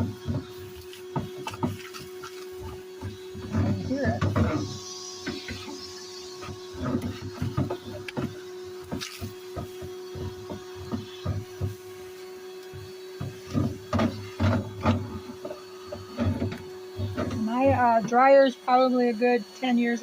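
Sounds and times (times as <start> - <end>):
knocks and rattles in hose: 0.0 - 20.0
vacuum cleaner humming: 0.0 - 20.0.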